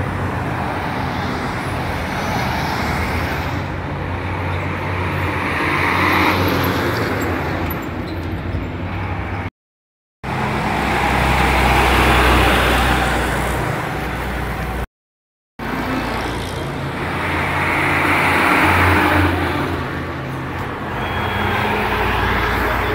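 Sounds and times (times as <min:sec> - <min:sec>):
vehicles passing on a street: 0:00.0 - 0:09.5, 0:10.2 - 0:14.9, 0:15.6 - 0:22.9.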